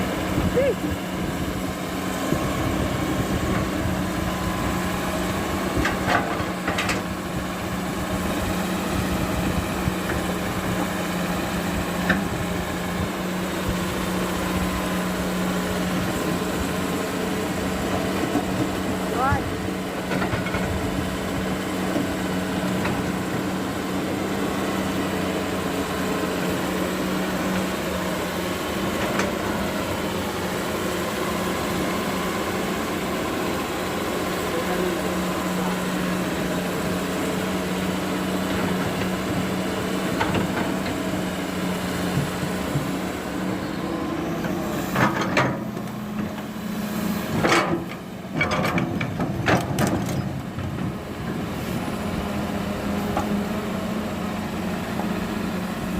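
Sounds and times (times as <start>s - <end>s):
heavy machinery diesel engine running: 0.0s - 55.9s.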